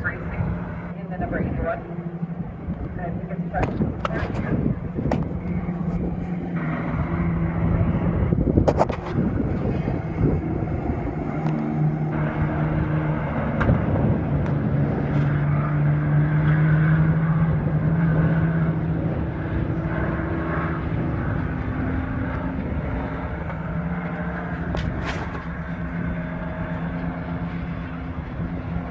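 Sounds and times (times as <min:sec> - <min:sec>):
race engines droning: 0:00.0 - 0:28.9.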